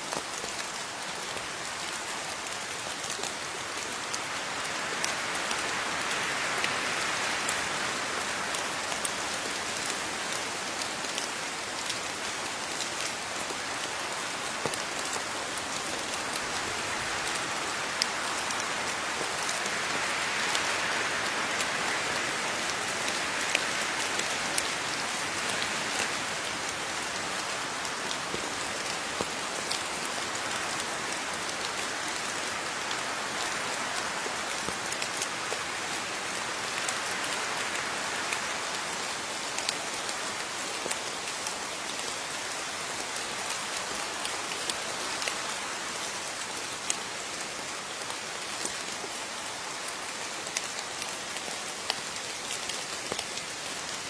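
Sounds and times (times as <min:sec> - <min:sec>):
raindrops pattering and clicking: 0:00.0 - 0:54.0
steady rain hiss: 0:00.0 - 0:54.0.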